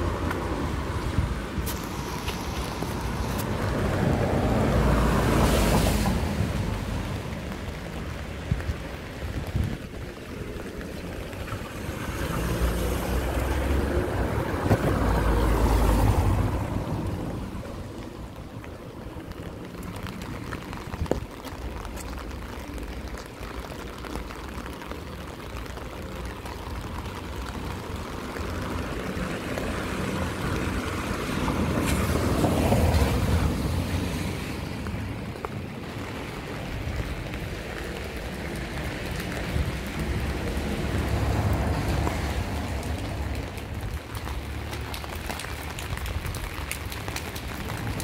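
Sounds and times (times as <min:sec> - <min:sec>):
rain hiss: 0:00.0 - 0:48.0
tyres swishing on wet road: 0:00.0 - 0:48.0.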